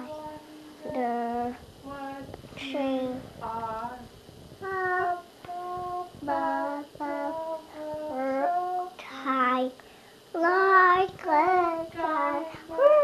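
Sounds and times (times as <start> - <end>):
child singing: 0.0 - 9.8, 10.4 - 13.0.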